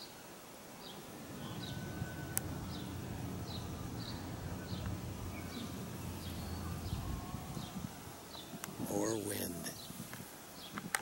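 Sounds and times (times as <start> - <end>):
wind rumbling on microphone: 0.8 - 11.0.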